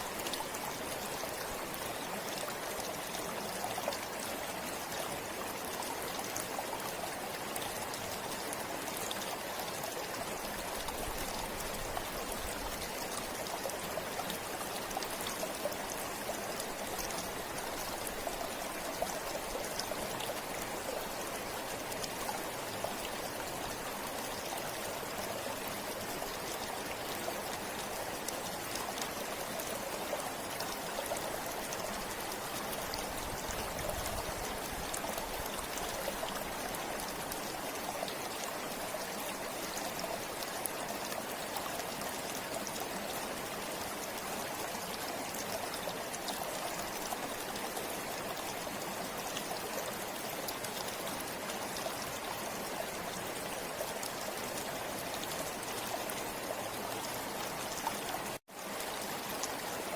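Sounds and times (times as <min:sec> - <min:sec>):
river flowing over stones: 0:00.0 - 0:59.9
water splashing and trickling: 0:00.0 - 0:59.9.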